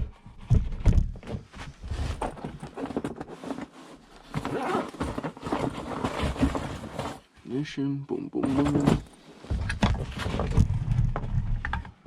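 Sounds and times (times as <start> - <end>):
rustling and knocking of gear: 0.0 - 7.4, 8.4 - 12.0.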